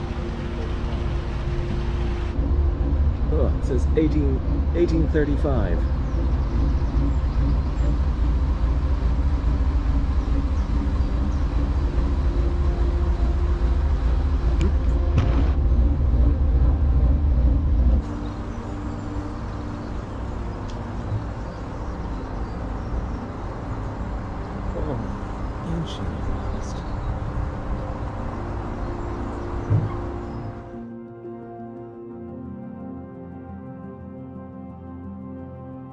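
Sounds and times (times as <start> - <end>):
boat engine humming: 0.0 - 30.8.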